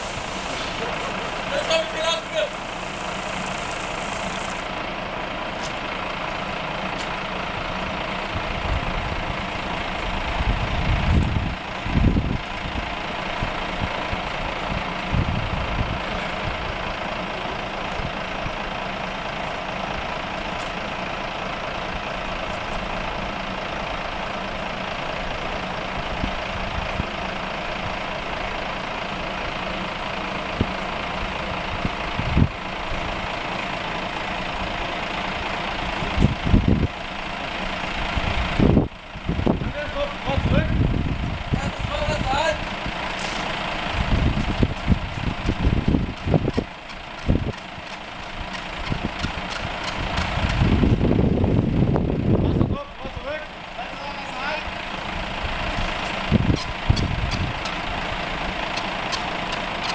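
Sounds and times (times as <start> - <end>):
fire engine running: 0.0 - 59.9
low rumbles: 0.0 - 59.9.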